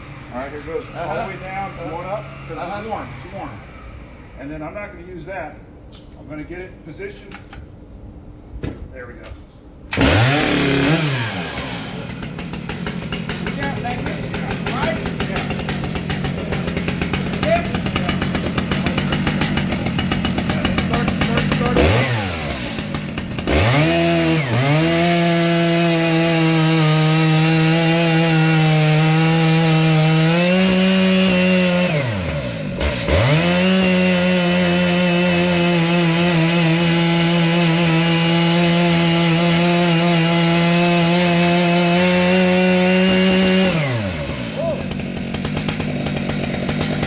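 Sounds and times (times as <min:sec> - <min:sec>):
chainsaw revving: 0:00.0 - 0:04.7, 0:09.9 - 0:47.0.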